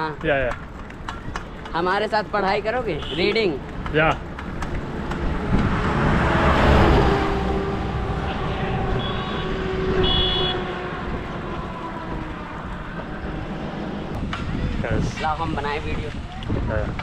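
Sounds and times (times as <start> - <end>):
motor vehicle passing: 0.3 - 14.8.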